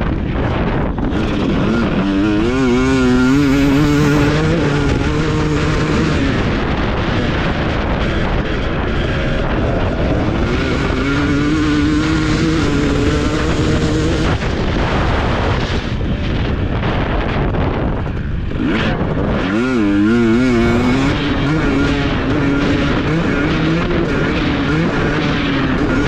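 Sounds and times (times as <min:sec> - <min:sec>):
constant rushing noise: 0:00.0 - 0:26.0
motocross bike engine running: 0:00.0 - 0:26.0.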